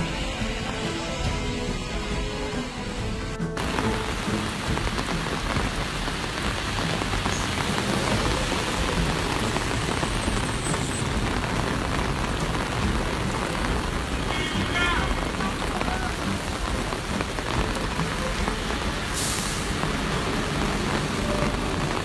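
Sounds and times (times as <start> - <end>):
heavy rain on road: 0.0 - 22.0.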